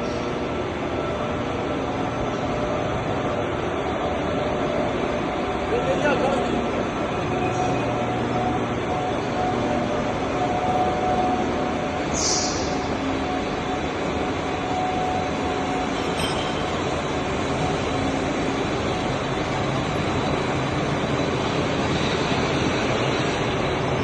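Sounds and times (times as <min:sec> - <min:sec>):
machine tool rumbling and whirring: 0:00.0 - 0:24.0.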